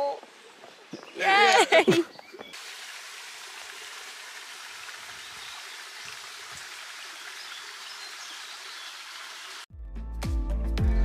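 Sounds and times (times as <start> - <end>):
stream trickling over stones: 0.0 - 9.7.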